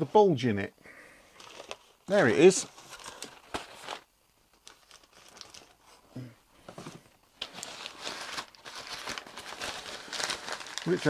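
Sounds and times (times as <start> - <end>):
packaging rustling and crinkling: 1.3 - 6.0, 6.6 - 11.0.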